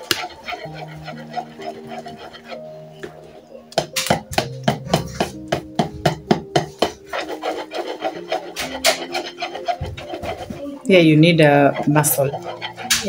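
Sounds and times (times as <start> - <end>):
whisk beating batter in bowl: 0.0 - 3.2, 3.8 - 13.0.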